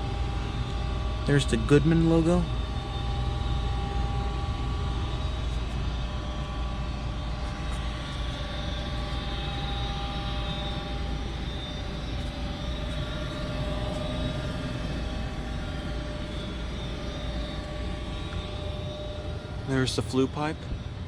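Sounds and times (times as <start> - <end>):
faint whining tones: 0.0 - 21.0
gas furnace air rush and hum: 0.0 - 21.0.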